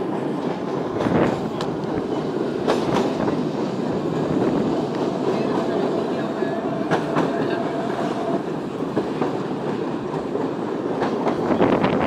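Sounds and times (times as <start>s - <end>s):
rumble of train wheels on track: 0.0s - 12.0s.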